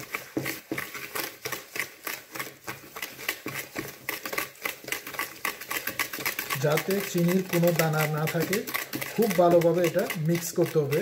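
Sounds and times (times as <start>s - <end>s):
whisk clicking against bowl: 0.0s - 11.0s.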